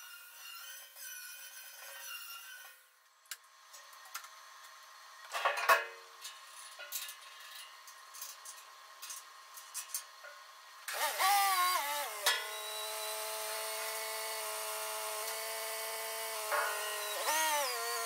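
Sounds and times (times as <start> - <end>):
tool steady noise: 0.0 - 18.0.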